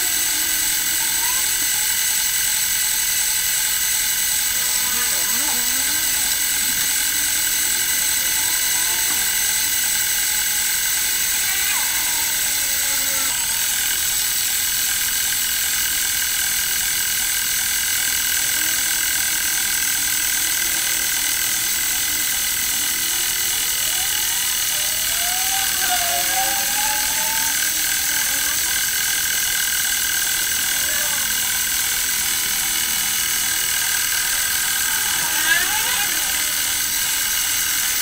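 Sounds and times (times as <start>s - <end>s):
metal lathe motor whining: 0.0s - 38.0s.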